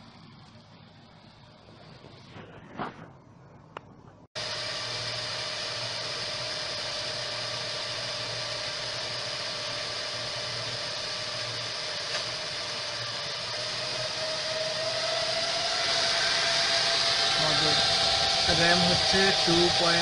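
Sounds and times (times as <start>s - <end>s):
server cooling fans whirring: 0.0s - 20.0s.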